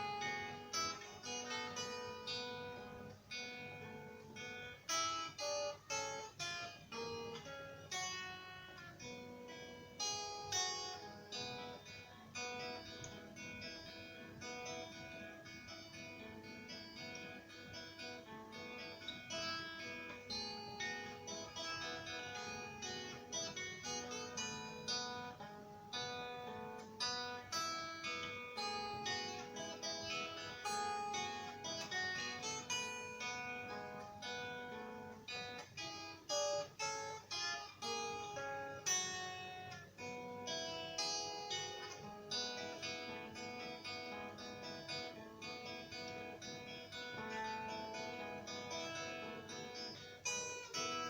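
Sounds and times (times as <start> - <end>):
acoustic guitar melody: 0.0 - 51.0.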